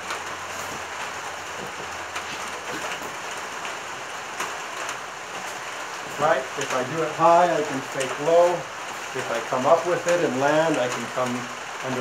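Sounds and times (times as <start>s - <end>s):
heavy pouring rain: 0.0s - 12.0s.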